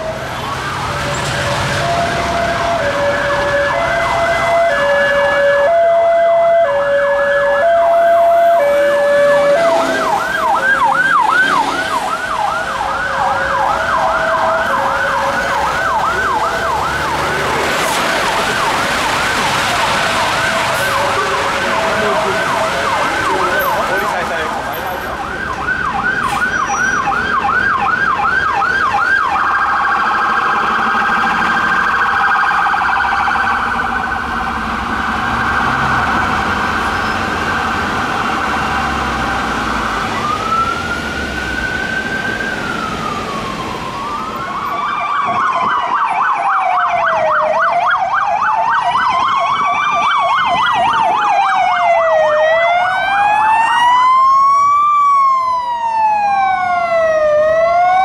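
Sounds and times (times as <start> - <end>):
two-tone siren: 0.0 - 58.0
yelp siren: 0.0 - 58.0.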